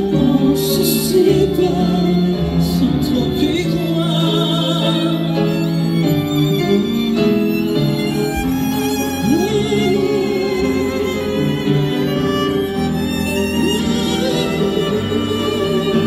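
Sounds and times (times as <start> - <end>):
sustained string accompaniment: 0.0 - 16.0
violin melody with vibrato: 0.0 - 16.0.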